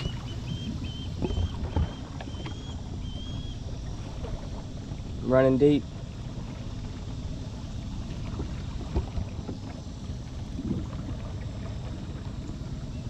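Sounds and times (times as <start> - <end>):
small boat engine rumbling: 0.0 - 13.0.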